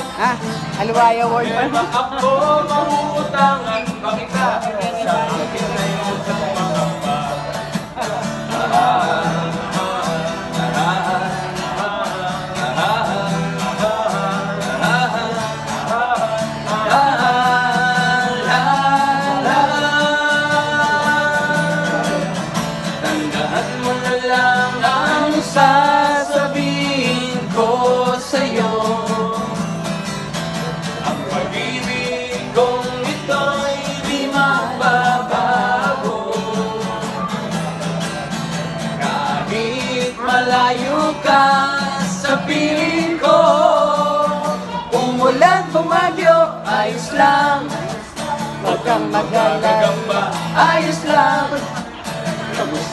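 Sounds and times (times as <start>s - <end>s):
acoustic guitar: 0.0s - 52.9s
man singing: 0.0s - 52.9s.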